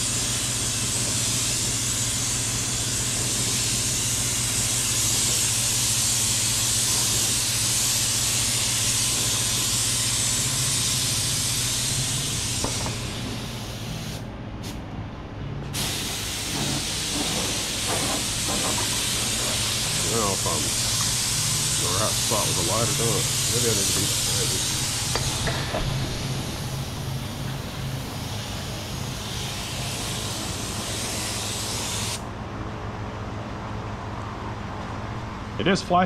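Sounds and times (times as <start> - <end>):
spray gun air hissing: 0.0 - 14.8, 15.7 - 32.2.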